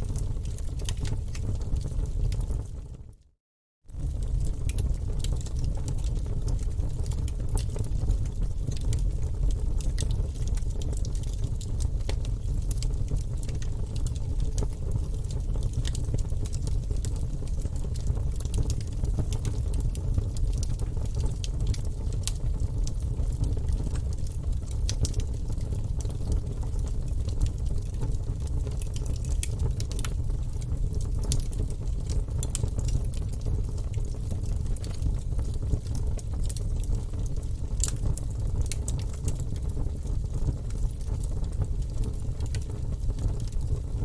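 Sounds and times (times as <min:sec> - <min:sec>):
fire crackling and popping: 0:00.0 - 0:03.2, 0:03.9 - 0:44.0.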